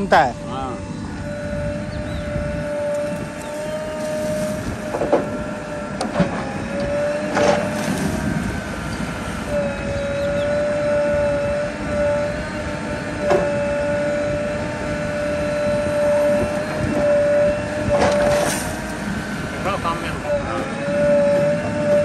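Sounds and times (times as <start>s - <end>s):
diesel engine under load: 0.0s - 22.0s
high hydraulic whine: 0.0s - 22.0s.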